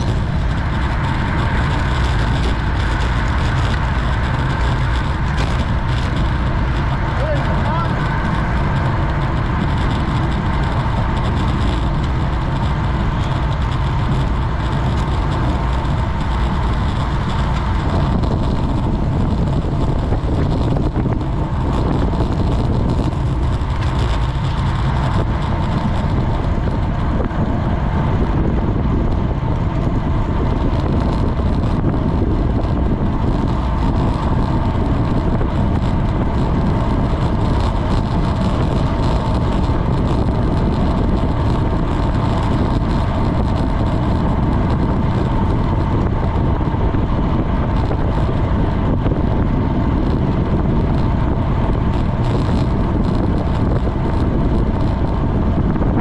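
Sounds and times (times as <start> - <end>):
tyre and road noise: 0.0 - 56.0
wind buffeting microphone: 0.0 - 56.0.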